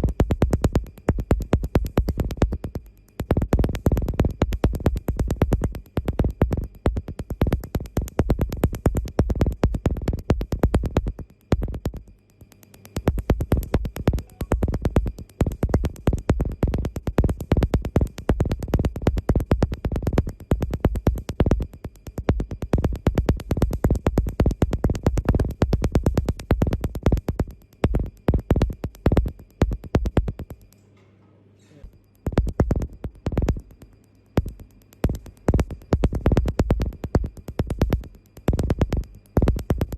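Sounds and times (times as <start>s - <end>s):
laser snapping clicks: 0.1s - 31.2s, 32.2s - 39.9s.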